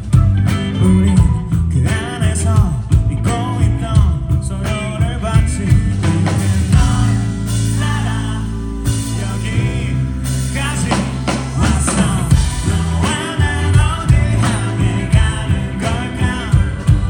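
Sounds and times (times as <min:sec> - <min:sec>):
electric guitar: 0:00.0 - 0:17.0
rock band playing live: 0:00.0 - 0:17.0.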